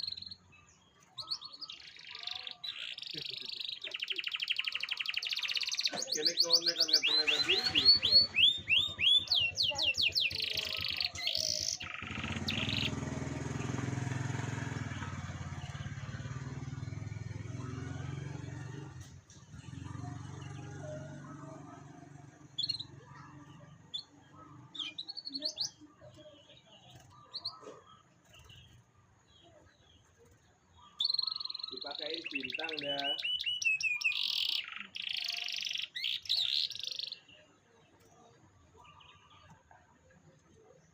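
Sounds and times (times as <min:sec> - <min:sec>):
canary singing: 0:00.0 - 0:39.6.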